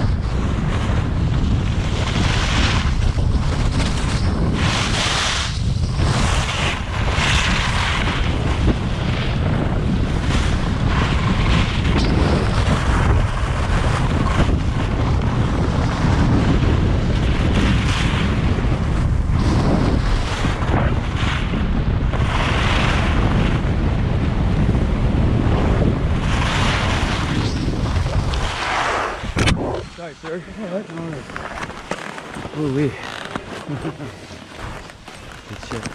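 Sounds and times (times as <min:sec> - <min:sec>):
wind buffeting microphone: 0:00.0 - 0:35.9
skis sliding on snow: 0:00.1 - 0:21.5, 0:22.2 - 0:23.4, 0:25.6 - 0:35.9.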